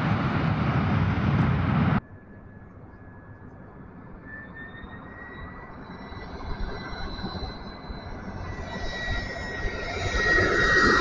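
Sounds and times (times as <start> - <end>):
distant jet engine whine: 0.0 - 11.0
jet airliner engine rush: 0.0 - 11.0.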